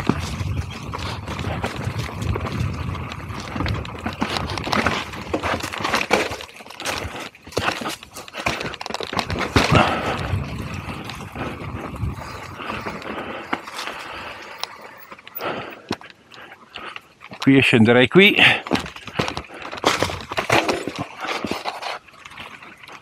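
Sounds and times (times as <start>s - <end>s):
bike rattling over bumps: 0.0s - 23.0s
bike tyres crunching over leaves: 0.0s - 23.0s.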